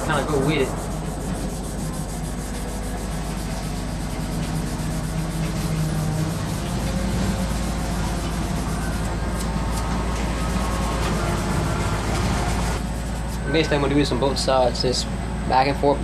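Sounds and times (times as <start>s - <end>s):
sandpaper rubbing on steel blade: 0.0s - 11.9s, 12.5s - 13.5s
steady low hum: 0.0s - 16.0s.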